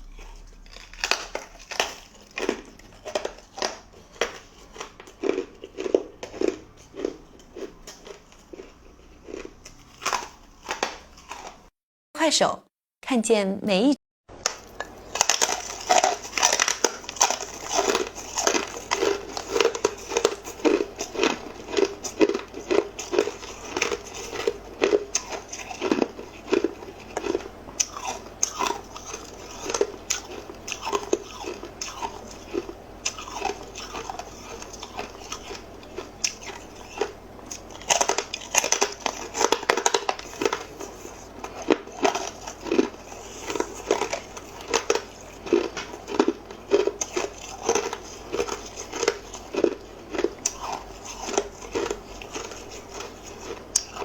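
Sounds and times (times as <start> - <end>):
ice being chewed: 0.0 - 11.7, 14.4 - 54.0.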